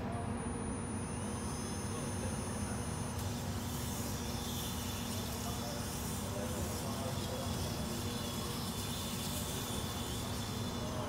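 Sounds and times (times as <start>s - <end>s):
hall hum and murmur: 0.0s - 11.0s
robot motor whine: 0.4s - 11.0s.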